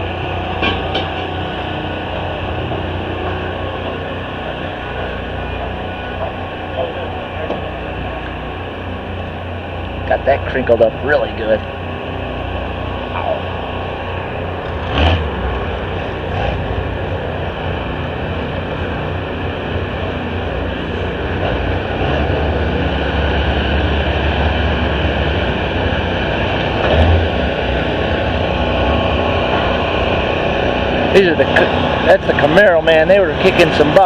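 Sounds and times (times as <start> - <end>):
deep rumble: 0.0 - 34.0
engines and machinery running: 0.0 - 34.0.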